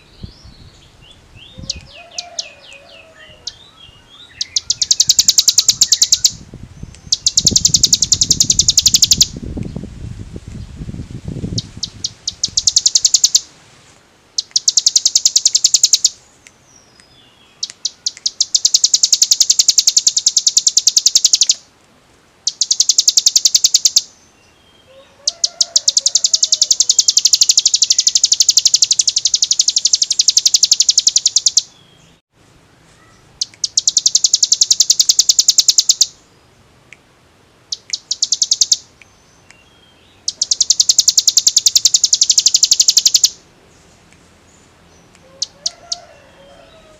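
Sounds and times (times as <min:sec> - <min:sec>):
bird singing rapid trills: 0:00.0 - 0:09.4, 0:11.5 - 0:13.5, 0:14.4 - 0:21.7, 0:22.5 - 0:32.2, 0:33.1 - 0:36.5, 0:37.7 - 0:43.9.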